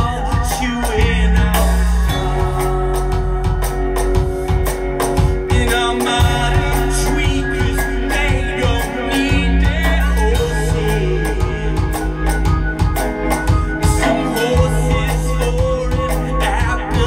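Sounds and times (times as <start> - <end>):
person singing: 0.0 - 4.1, 5.2 - 12.7, 13.8 - 17.0
heavy bass: 0.0 - 17.0
steady drum beat: 0.0 - 17.0.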